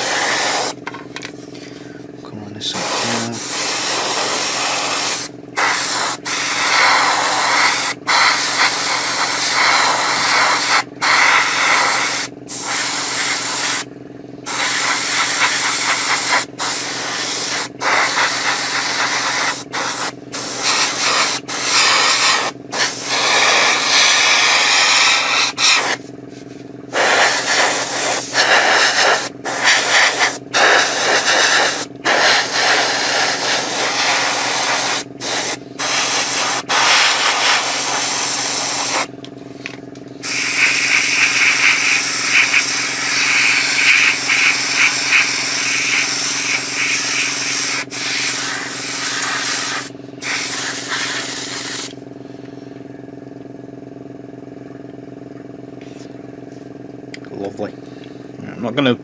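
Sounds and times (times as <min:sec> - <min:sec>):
airbrush spraying hiss: 0:00.0 - 0:00.8, 0:02.7 - 0:13.9, 0:14.5 - 0:26.0, 0:27.0 - 0:39.1, 0:40.2 - 0:51.9.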